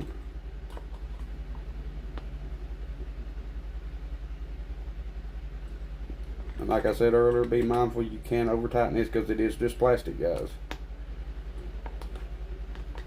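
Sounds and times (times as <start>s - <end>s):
low pulsing machine hum: 0.0s - 13.0s.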